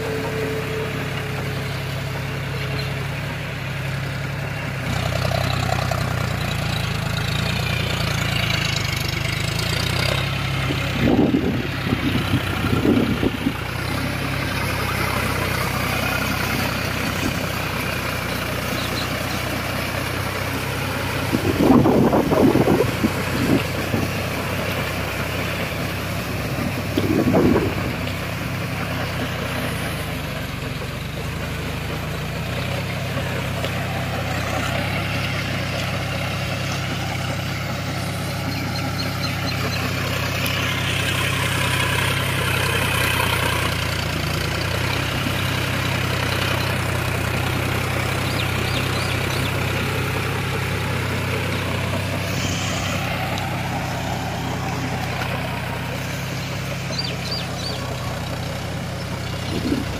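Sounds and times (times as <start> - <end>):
tractor diesel engine running: 0.0 - 59.9
rotavator churning wet mud: 4.8 - 59.9.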